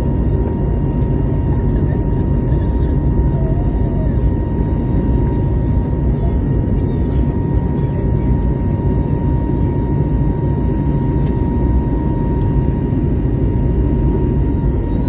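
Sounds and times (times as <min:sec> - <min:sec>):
jet engine and airflow roar: 0:00.0 - 0:15.0.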